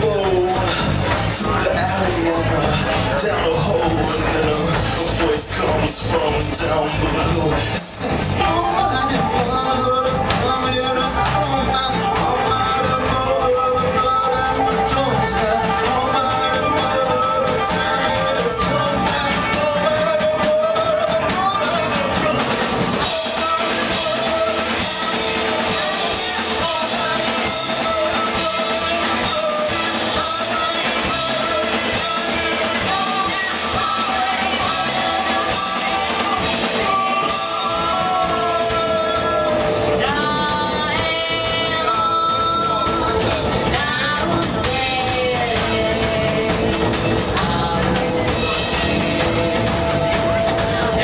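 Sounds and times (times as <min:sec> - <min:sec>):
drum kit: 0:00.0 - 0:51.0
electric guitar: 0:00.0 - 0:51.0
wordless vocal tones: 0:00.0 - 0:51.0.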